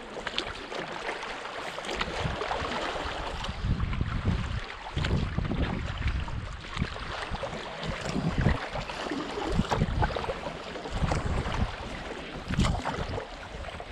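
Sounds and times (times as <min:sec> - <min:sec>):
fast river water: 0:00.0 - 0:13.9
paddle strokes in water: 0:00.0 - 0:13.9
water splashing along hull: 0:00.0 - 0:13.9
wind rumbling on microphone: 0:01.6 - 0:13.9.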